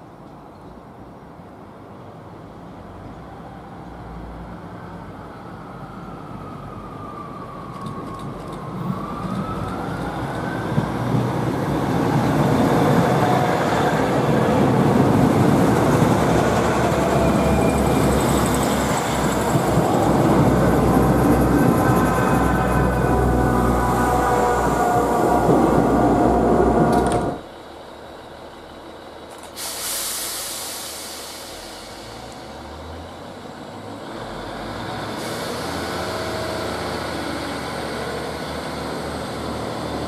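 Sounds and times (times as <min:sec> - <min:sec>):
diesel train running past: 0:02.1 - 0:40.0.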